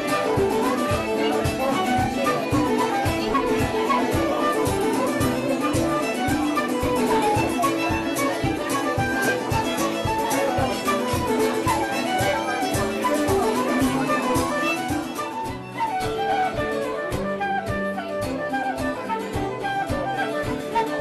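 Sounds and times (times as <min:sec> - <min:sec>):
fiddle playing quick melody: 0:00.0 - 0:21.0.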